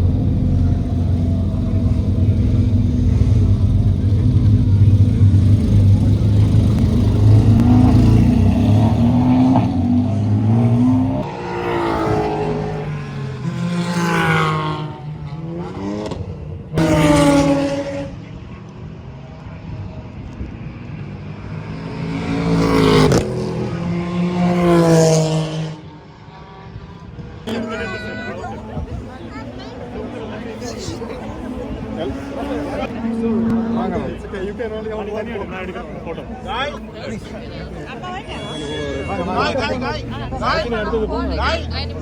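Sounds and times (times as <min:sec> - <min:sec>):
race cars passing by: 0:00.0 - 0:42.0.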